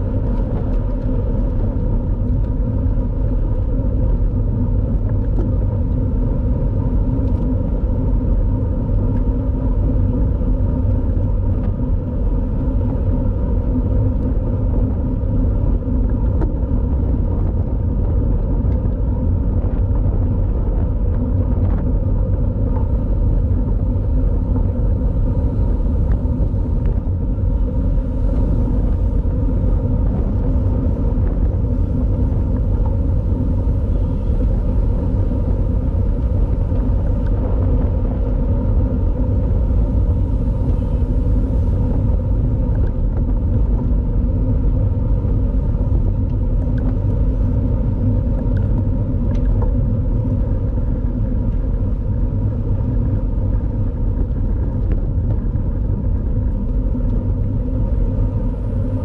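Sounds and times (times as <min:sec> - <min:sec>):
road noise: 0:00.0 - 0:59.0
wind rumble: 0:00.0 - 0:59.0.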